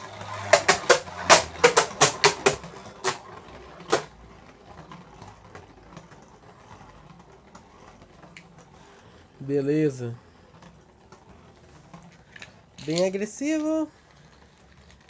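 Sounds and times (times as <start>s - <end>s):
spinning top clicking against wall: 0.0s - 9.2s, 10.3s - 15.0s
spinning top whirring: 0.0s - 15.0s.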